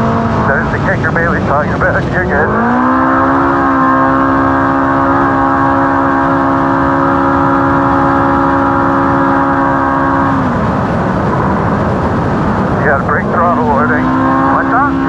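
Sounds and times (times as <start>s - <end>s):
race car engine and exhaust: 0.0s - 15.0s.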